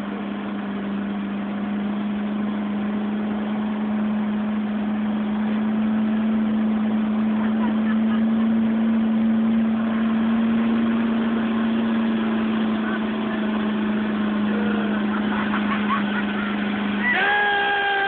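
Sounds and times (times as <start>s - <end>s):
motorboat engine running: 0.0s - 18.0s
water and wake noise: 0.0s - 18.0s.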